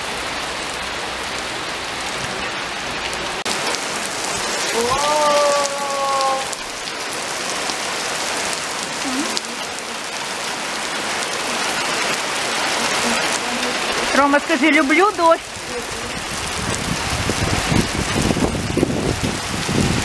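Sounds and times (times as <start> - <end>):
heavy rain on asphalt: 0.0 - 20.0.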